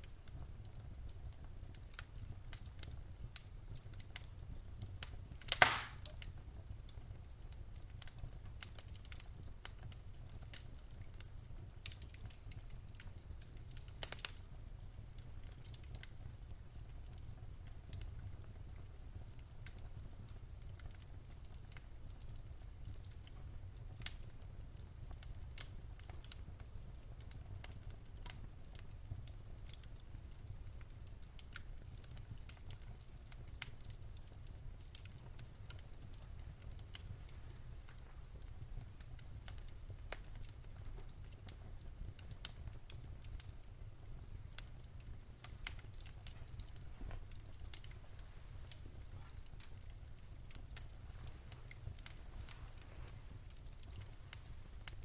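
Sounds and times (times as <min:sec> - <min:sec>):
low rumble of fire: 0:00.0 - 0:55.0
wood fire crackling and popping: 0:00.0 - 0:55.0.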